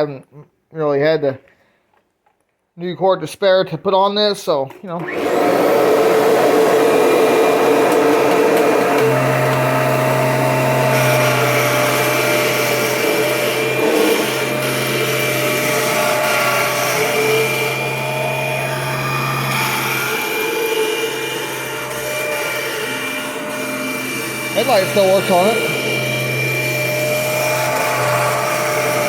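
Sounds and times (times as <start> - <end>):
vacuum cleaner running: 4.9 - 29.0.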